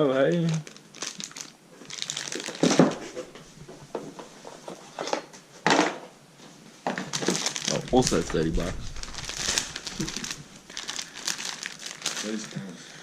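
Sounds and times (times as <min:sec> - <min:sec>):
packaging crinkling and rustling: 0:00.3 - 0:05.3, 0:06.9 - 0:12.8.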